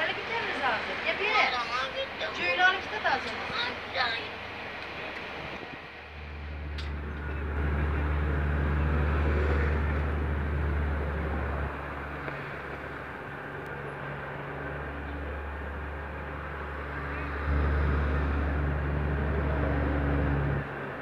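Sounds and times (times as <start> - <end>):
heavy diesel engine droning: 0.0 - 21.0
street traffic: 0.0 - 21.0.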